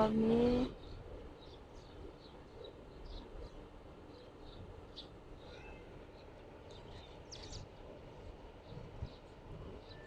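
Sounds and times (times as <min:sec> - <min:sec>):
sparrows chirping: 0:00.0 - 0:10.0.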